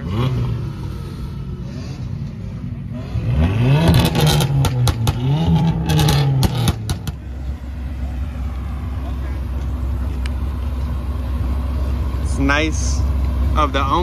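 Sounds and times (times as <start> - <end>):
sports car engine revving: 0.0 - 12.3
car engines idling: 0.0 - 14.0.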